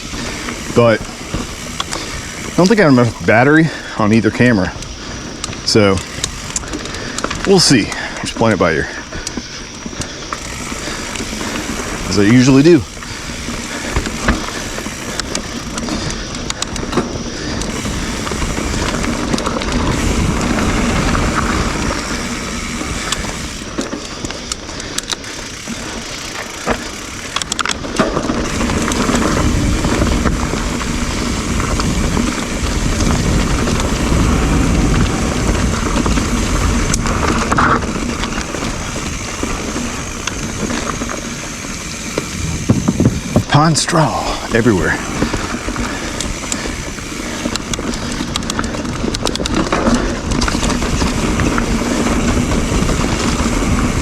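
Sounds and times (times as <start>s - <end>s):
bike chain and frame rattling: 0.0s - 54.0s
bike tyres rolling over dirt: 0.0s - 54.0s.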